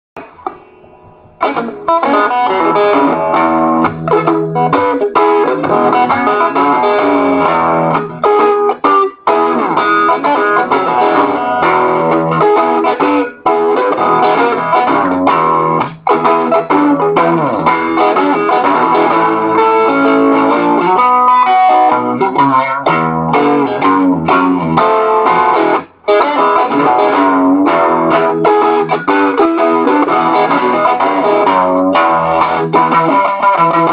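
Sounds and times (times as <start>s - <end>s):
electric guitar blues boogie: 0.2s - 33.9s.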